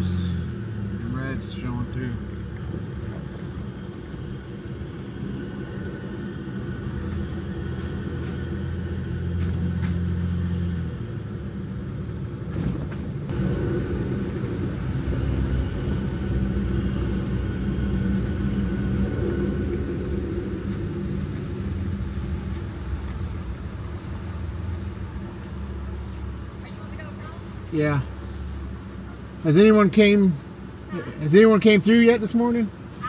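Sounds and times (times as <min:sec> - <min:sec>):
engine and tyre rumble: 0:00.0 - 0:33.0.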